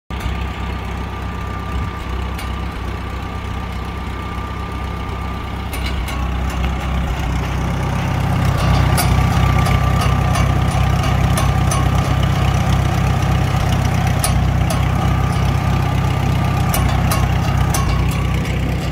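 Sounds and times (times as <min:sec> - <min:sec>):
tractor engine idling: 0:00.1 - 0:18.9.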